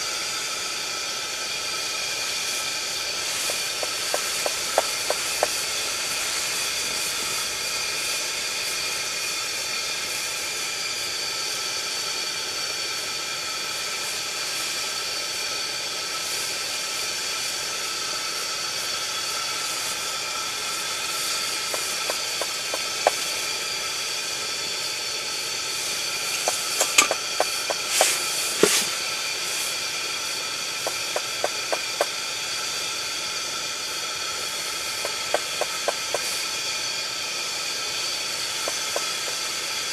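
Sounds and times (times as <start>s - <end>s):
burner heater hissing: 0.0s - 39.9s.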